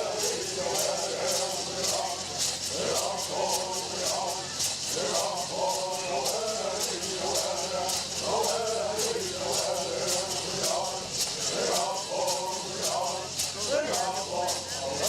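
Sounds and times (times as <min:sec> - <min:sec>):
rattles shaking: 0:00.0 - 0:15.0
singers chanting in unison: 0:00.0 - 0:15.0.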